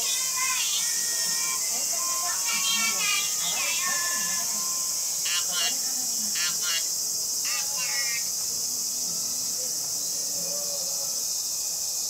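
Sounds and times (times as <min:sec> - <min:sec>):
television speech: 0:00.0 - 0:11.2
high-pitched insect buzzing: 0:00.0 - 0:12.0.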